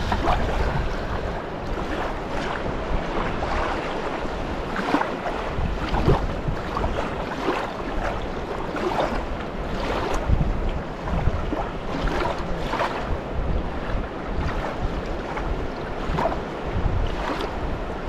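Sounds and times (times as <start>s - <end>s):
water lapping at shore: 0.0s - 18.0s
wind on microphone: 0.0s - 18.0s.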